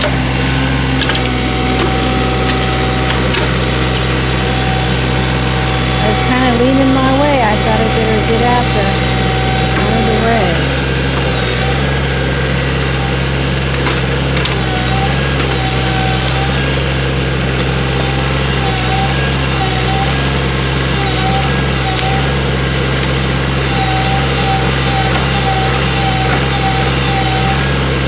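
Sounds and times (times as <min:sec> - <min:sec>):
diesel engine running: 0:00.0 - 0:28.0
hydraulic arm whines: 0:00.0 - 0:28.0.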